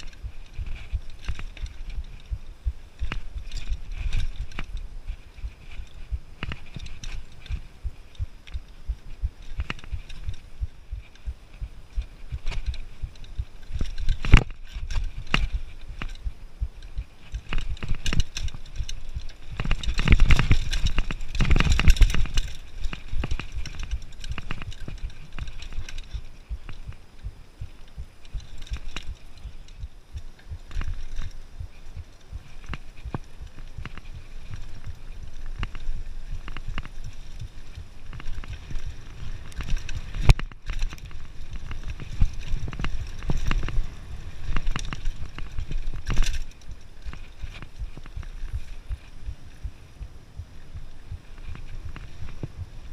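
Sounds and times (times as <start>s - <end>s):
low microphone rumble: 0.0s - 52.9s
mountain bike rattling on rocks: 0.0s - 52.9s.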